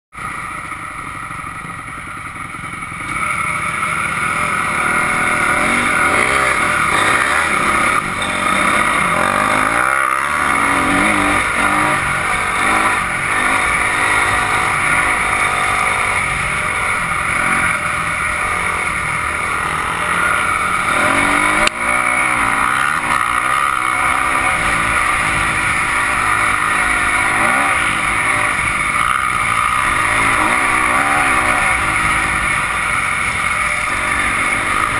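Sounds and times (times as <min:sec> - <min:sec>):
dirt bike engine revving: 0:00.2 - 0:34.9
steady rushing noise: 0:00.2 - 0:34.9.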